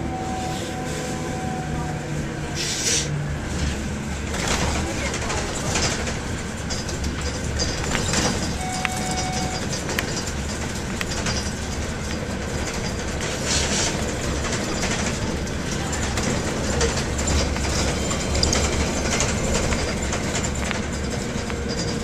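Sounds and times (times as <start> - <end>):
bus engine rumble: 0.0 - 22.0
road noise: 0.0 - 22.0
sharp clicks and rattles: 4.3 - 22.0.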